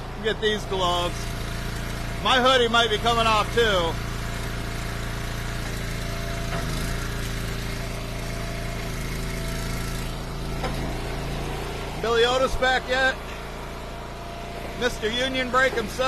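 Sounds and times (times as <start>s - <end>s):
small gas engine running: 0.0s - 16.0s.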